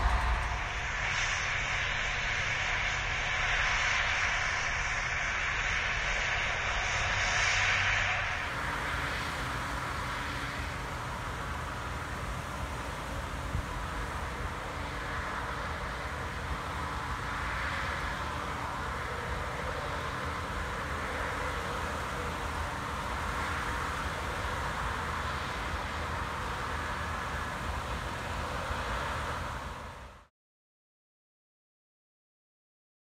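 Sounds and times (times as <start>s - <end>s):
combine harvester droning: 0.0s - 30.1s.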